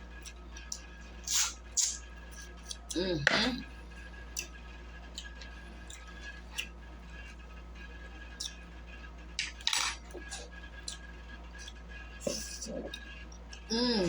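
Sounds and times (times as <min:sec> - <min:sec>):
low steady hum: 0:00.0 - 0:14.0
eating clicks and ticks: 0:00.1 - 0:03.6, 0:04.3 - 0:07.4, 0:08.2 - 0:08.8, 0:09.4 - 0:13.8.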